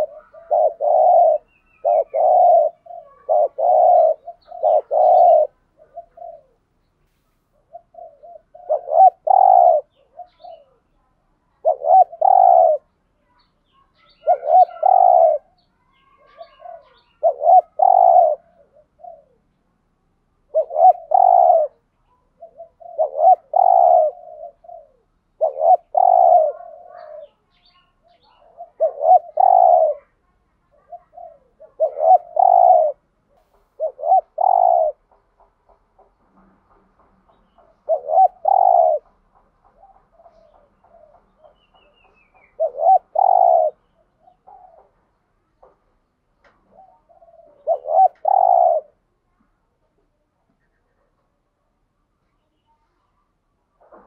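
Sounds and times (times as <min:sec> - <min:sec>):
dove cooing: 0:00.0 - 0:06.7, 0:07.5 - 0:12.9, 0:14.0 - 0:19.6, 0:20.4 - 0:35.3, 0:37.3 - 0:45.7, 0:46.5 - 0:49.0.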